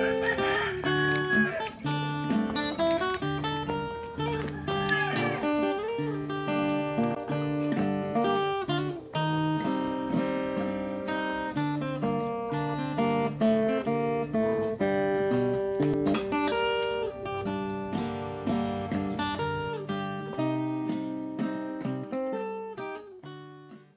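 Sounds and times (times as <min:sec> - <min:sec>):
acoustic guitar playing: 0:00.0 - 0:23.9.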